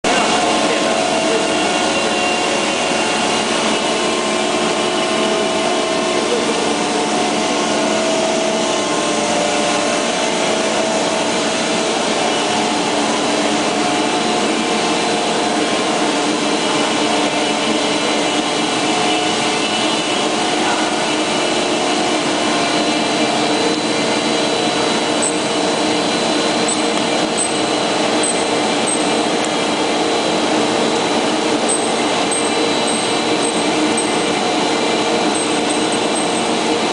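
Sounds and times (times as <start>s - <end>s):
constant drive hum tones: 0.0s - 36.9s
loud machine drone: 0.0s - 36.9s.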